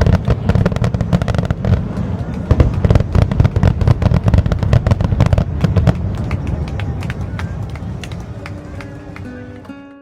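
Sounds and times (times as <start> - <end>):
fireworks cracking: 0.0 - 9.4
low rumble of bursts: 0.0 - 9.6.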